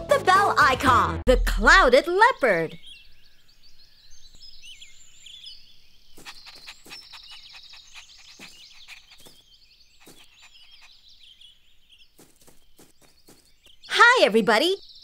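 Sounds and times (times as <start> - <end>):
small birds chirping: 1.8 - 15.0.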